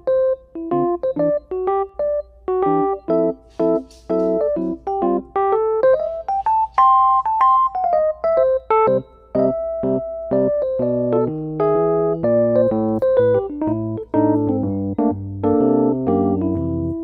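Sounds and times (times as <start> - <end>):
electric piano melody: 0.0 - 17.0.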